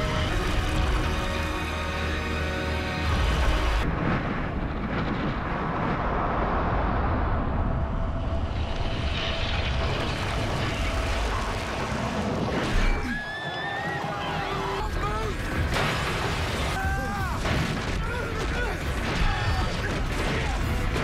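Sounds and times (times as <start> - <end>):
rushing drone: 0.0 - 17.2.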